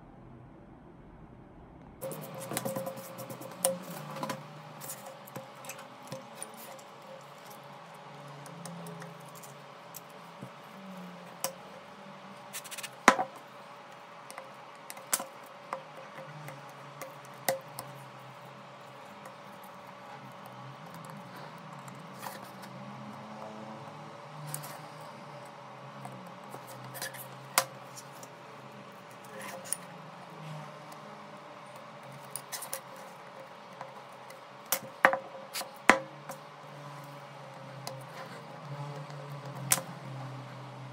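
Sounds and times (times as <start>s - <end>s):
faint hum: 0.0s - 40.9s.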